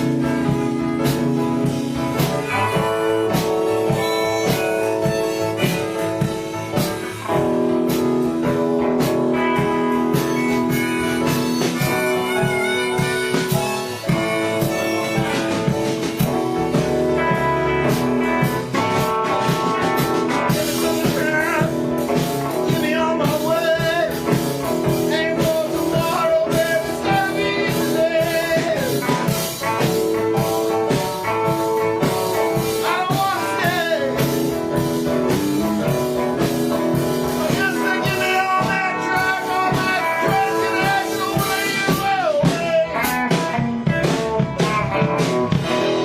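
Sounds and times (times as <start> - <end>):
electric guitar lead lines: 0.0 - 46.0
harmonica: 0.0 - 46.0
live blues band playing: 0.0 - 46.0.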